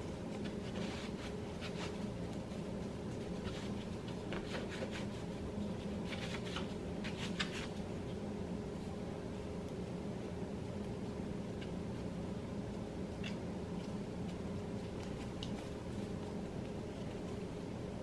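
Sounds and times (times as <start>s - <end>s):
hands rubbing bread dough: 0.0s - 17.8s
steady low hum: 0.0s - 18.0s.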